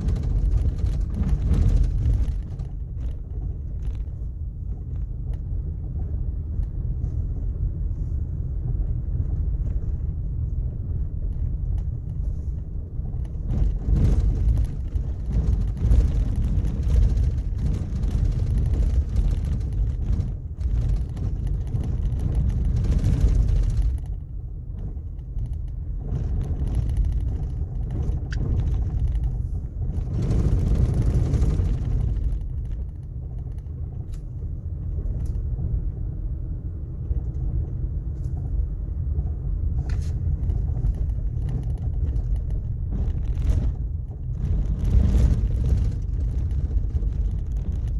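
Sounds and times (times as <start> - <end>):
car driving on gravel: 0.0 - 47.9.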